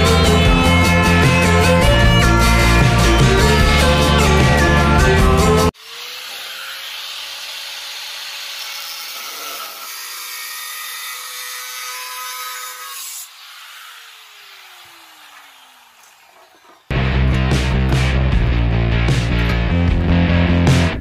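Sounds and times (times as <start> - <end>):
angle grinder cutting steel: 0.0 - 19.8.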